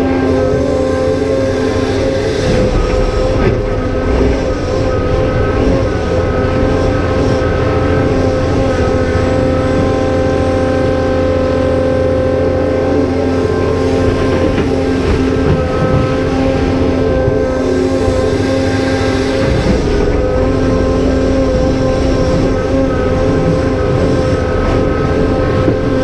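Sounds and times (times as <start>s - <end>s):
excavator diesel engine under load: 0.0s - 26.0s.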